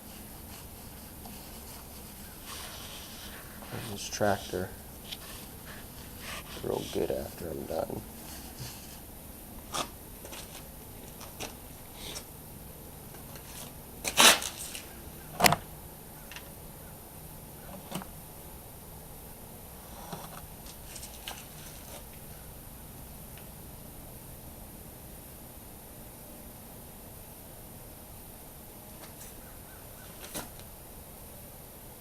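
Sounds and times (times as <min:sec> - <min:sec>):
faint steady hiss: 0:00.0 - 0:32.0.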